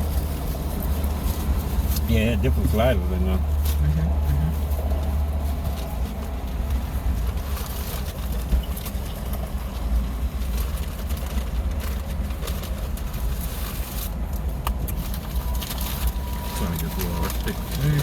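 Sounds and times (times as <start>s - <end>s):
car cabin rumble: 0.0s - 18.0s
wrappers rustling: 0.0s - 18.0s.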